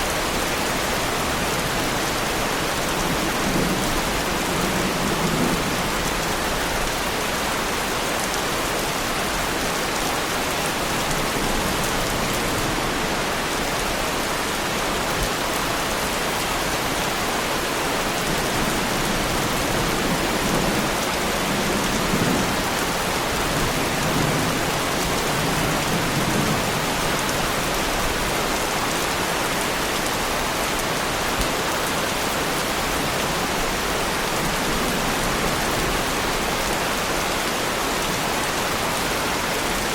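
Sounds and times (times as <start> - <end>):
heavy rain on a car: 0.1 - 39.9.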